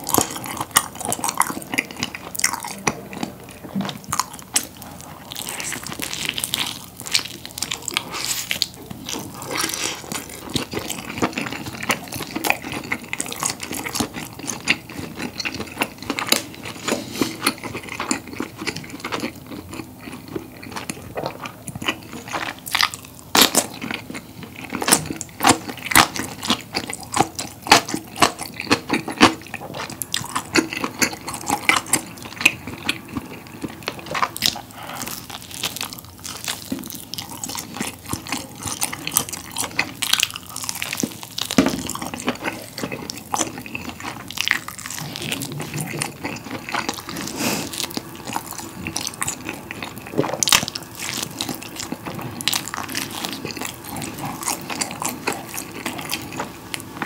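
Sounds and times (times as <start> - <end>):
close chewing with crunches: 0.0 - 57.0.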